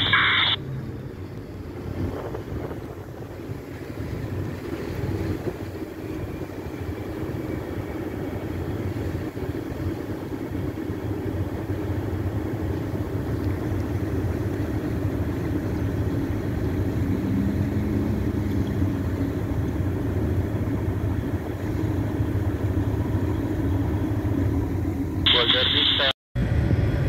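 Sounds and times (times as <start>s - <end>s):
diesel engine rumble: 0.0s - 27.0s.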